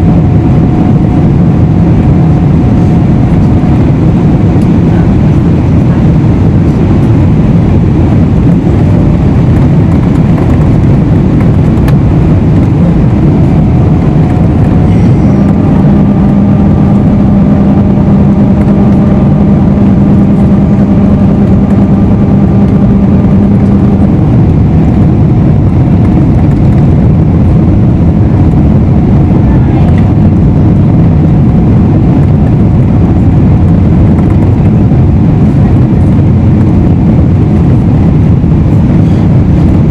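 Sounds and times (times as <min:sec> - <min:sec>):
airplane cabin engine and airflow rush: 0:00.0 - 0:39.9
steady low hum: 0:00.0 - 0:39.9.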